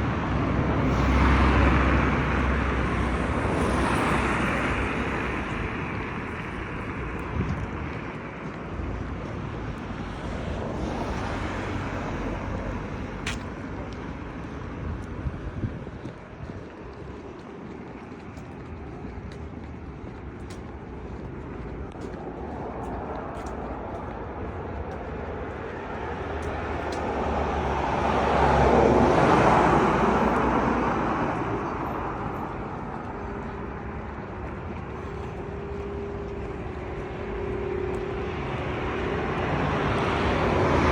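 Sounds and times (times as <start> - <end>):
passing vehicles: 0.0 - 40.9
wind on microphone: 0.0 - 40.9.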